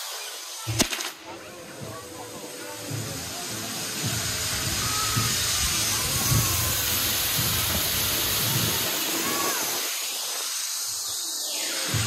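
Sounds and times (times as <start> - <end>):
faint crowd voices: 0.0 - 12.0
fireworks hissing: 0.0 - 12.0.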